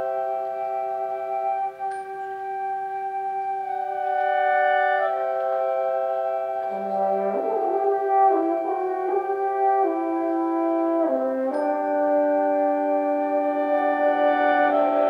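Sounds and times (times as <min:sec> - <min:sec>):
wind band playing sustained chords: 0:00.0 - 0:15.0.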